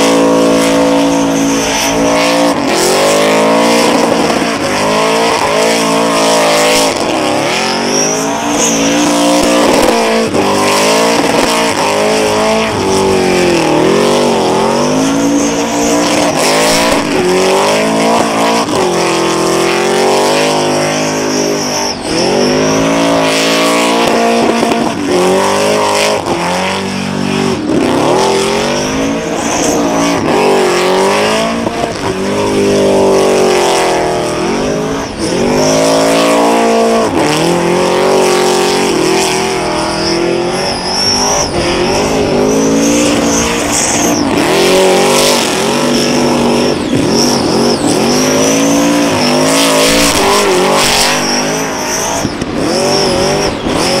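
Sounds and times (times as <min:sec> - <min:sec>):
supercharged engine revving: 0:00.0 - 0:54.0
tyres squealing on pavement: 0:00.0 - 0:54.0.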